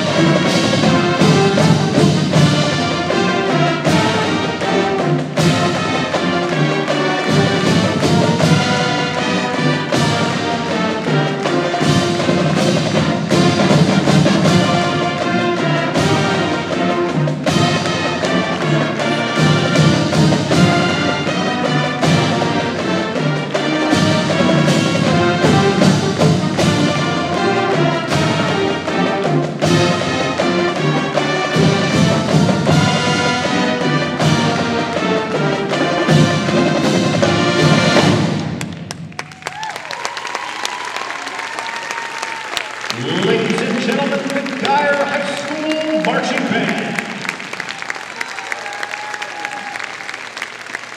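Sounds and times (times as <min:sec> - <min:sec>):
marching band playing: 0:00.0 - 0:50.9.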